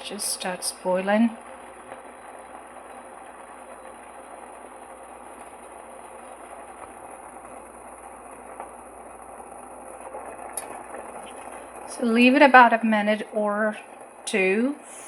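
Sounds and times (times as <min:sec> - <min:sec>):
water bubbling at a boil: 0:00.0 - 0:15.0.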